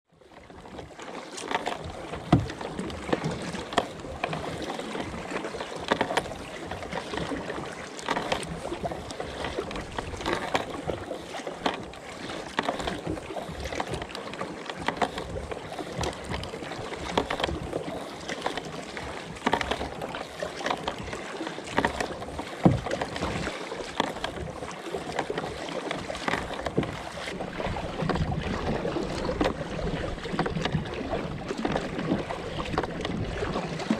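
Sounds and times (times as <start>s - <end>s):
paddle strokes splashing: 0.1s - 33.9s
water washing along hull: 0.1s - 33.9s.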